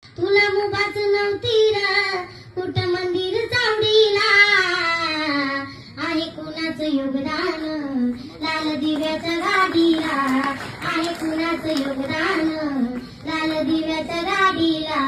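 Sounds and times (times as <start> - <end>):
girl singing: 0.1 - 15.0.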